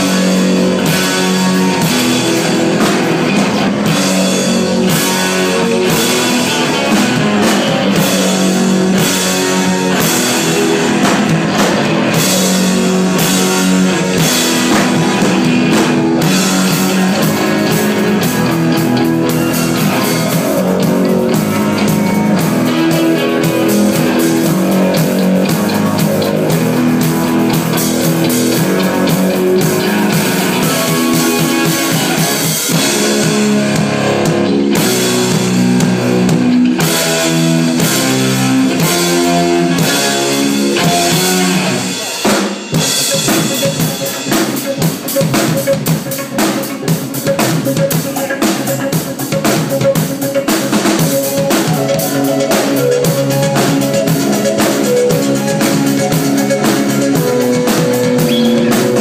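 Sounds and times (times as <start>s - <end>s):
drum kit beats: 0.0s - 59.0s
electric guitar: 0.0s - 59.0s
held keyboard notes: 0.0s - 59.0s.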